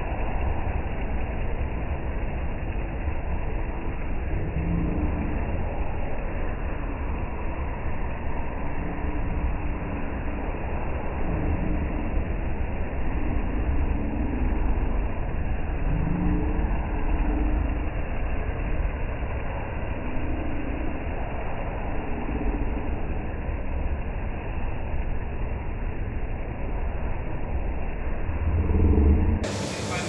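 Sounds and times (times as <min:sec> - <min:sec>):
carpet cleaning machine running: 0:00.0 - 0:30.0.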